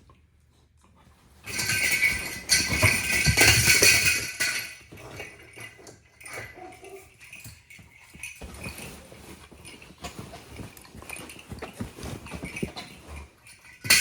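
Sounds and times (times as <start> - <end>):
cat toy jingling: 1.5 - 14.0.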